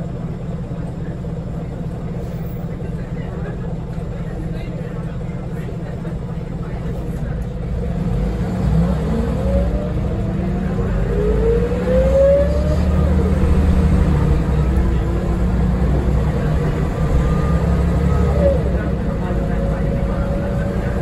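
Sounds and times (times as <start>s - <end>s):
bus engine rumble: 0.0s - 21.0s
drivetrain whine: 0.0s - 21.0s.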